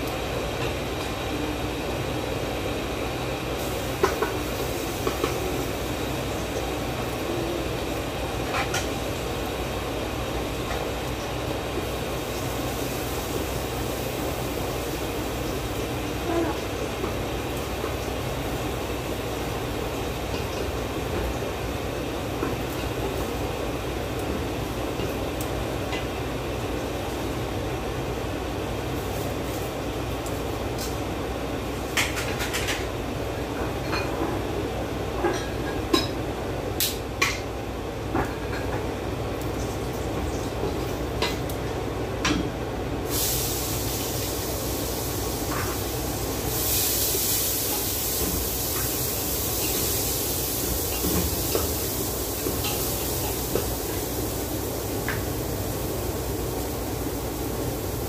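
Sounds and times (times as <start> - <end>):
steady hiss: 1.0 - 32.6, 43.0 - 58.0.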